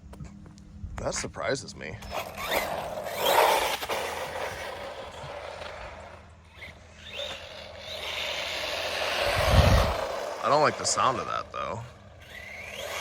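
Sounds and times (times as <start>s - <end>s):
rc car motor and drivetrain: 2.0s - 13.0s.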